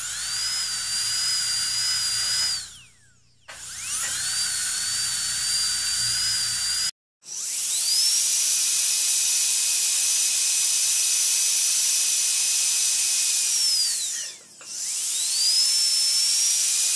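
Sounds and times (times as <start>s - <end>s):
dental drill whining: 0.0s - 16.9s.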